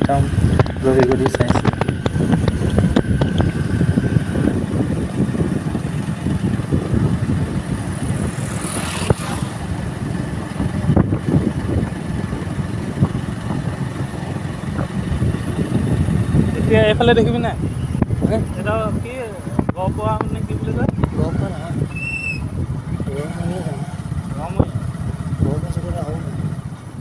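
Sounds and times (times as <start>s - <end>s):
motorcycle engine running: 0.0s - 27.0s
wind buffeting microphone: 0.0s - 27.0s.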